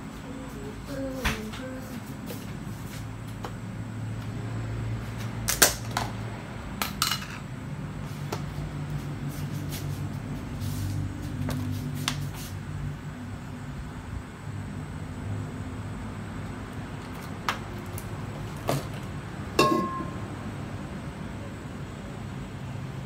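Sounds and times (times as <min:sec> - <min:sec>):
steady low hum: 0:00.0 - 0:05.5, 0:06.2 - 0:23.0.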